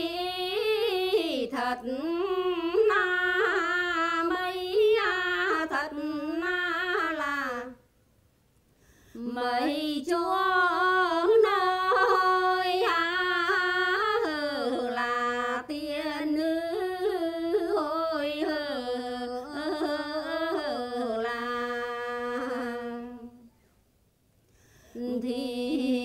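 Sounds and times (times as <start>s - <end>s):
woman singing unaccompanied: 0.0s - 7.8s, 9.1s - 23.5s, 24.9s - 26.0s.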